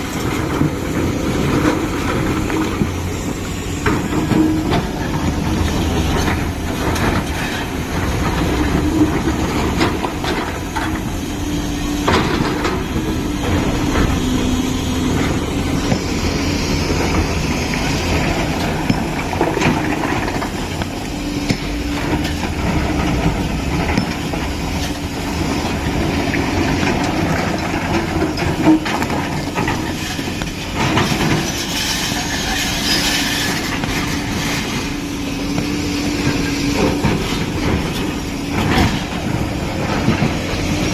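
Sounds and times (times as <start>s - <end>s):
diesel engine running with whine: 0.0s - 40.9s.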